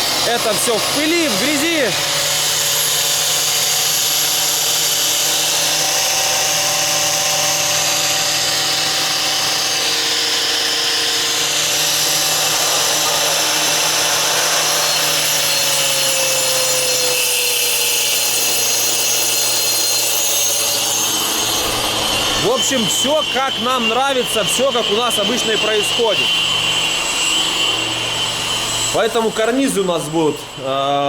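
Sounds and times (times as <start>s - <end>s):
masonry saw cutting brick: 0.0s - 31.0s.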